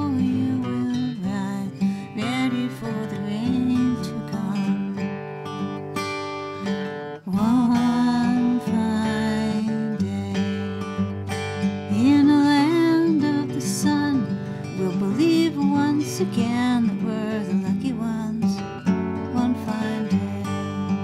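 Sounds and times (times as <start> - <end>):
woman singing: 0.0 - 5.2, 7.2 - 11.1, 11.7 - 21.0
strummed acoustic guitar: 0.0 - 21.0.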